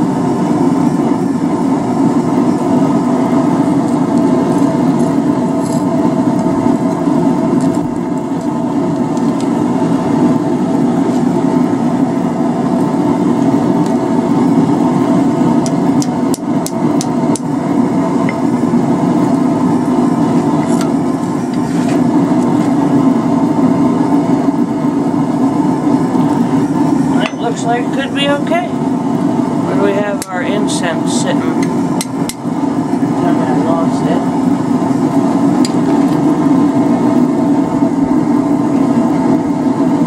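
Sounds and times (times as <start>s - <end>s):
forge mechanical drone: 0.0s - 40.0s.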